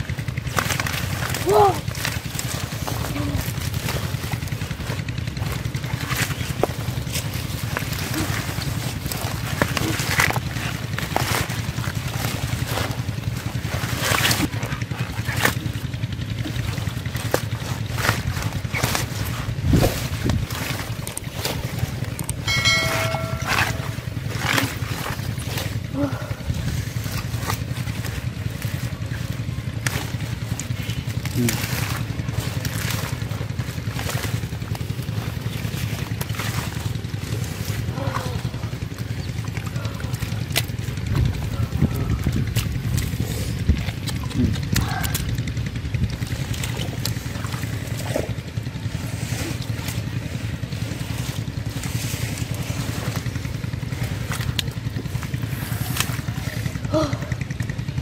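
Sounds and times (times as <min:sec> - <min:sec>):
wet clicks and splashes in mud: 0:00.0 - 0:22.5, 0:23.3 - 0:58.0
leaves and stems rustling: 0:00.0 - 0:58.0
low engine drone: 0:00.0 - 0:58.0
low rumble: 0:00.0 - 0:58.0.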